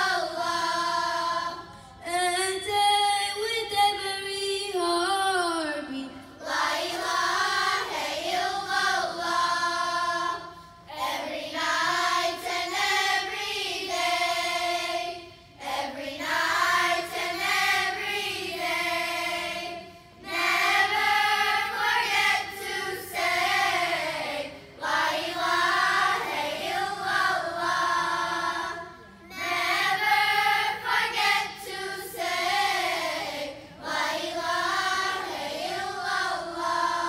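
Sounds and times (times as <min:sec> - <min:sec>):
girls choir singing: 0:00.0 - 0:02.7, 0:05.9 - 0:37.0.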